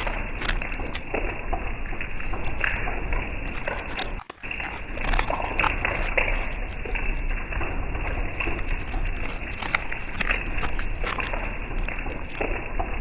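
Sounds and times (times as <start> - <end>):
sharp taps and crackles: 0.0 - 13.0.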